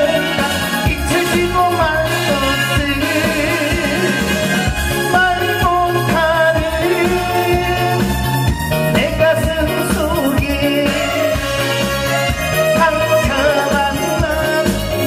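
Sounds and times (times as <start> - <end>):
man singing into microphone: 0.0 - 15.0
music with steady bass beat: 0.0 - 15.0.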